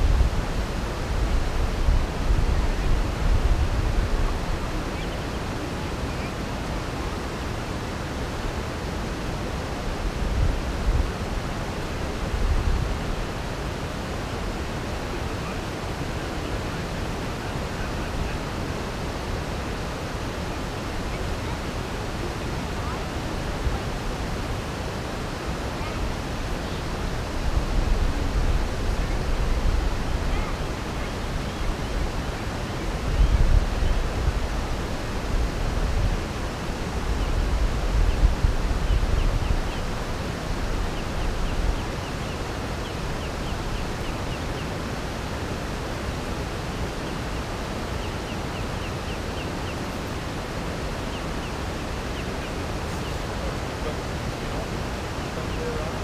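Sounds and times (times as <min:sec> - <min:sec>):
low rumbling gusts: 0:00.0 - 0:56.0.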